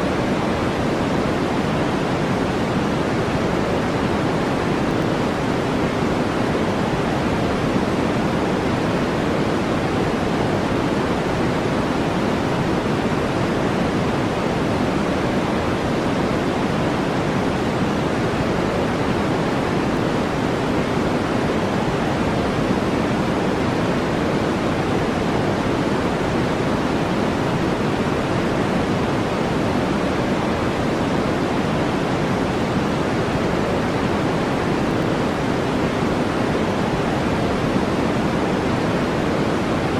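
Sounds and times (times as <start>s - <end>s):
deep brown noise hiss: 0.0s - 39.9s.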